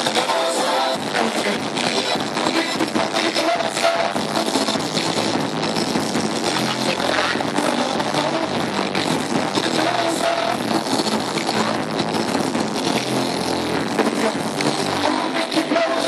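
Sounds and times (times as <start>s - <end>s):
rapping over loud backing track: 0.0s - 16.0s.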